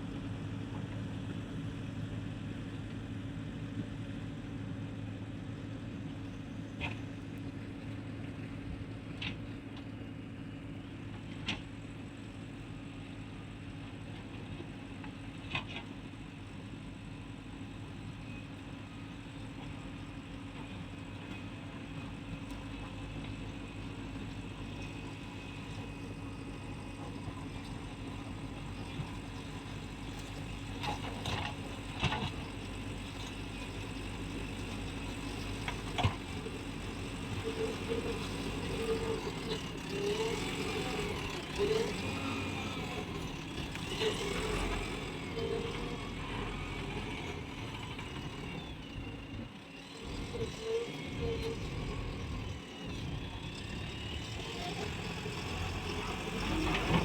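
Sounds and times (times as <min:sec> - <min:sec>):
diesel engine of heavy machinery: 0:00.0 - 0:57.0.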